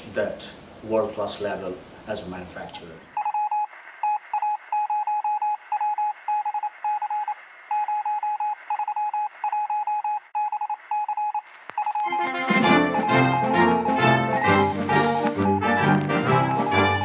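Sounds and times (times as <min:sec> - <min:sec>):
morse code beeping: 0:03.2 - 0:17.0.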